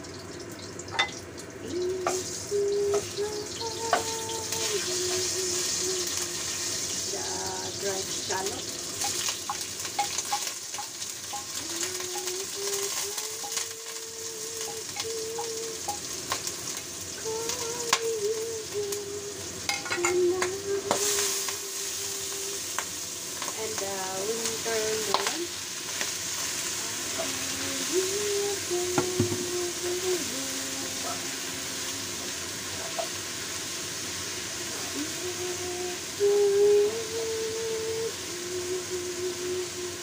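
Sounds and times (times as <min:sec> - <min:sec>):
food sizzling in oil: 0:00.0 - 0:40.0.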